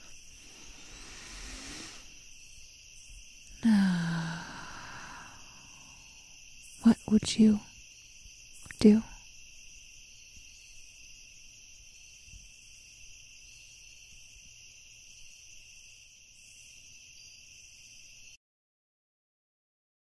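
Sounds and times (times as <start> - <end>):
crickets trilling: 0.0 - 18.4.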